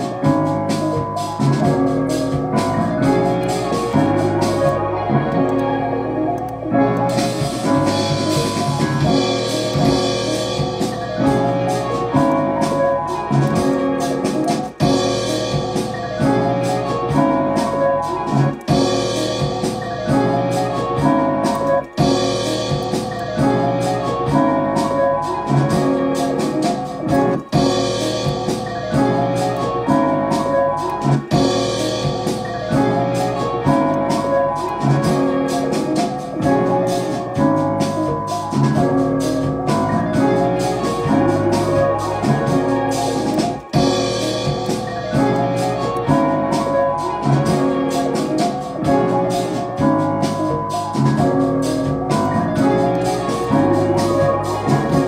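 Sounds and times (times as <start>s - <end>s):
drums: 0.0s - 5.6s, 6.8s - 55.0s
keyboard melody: 0.0s - 55.0s.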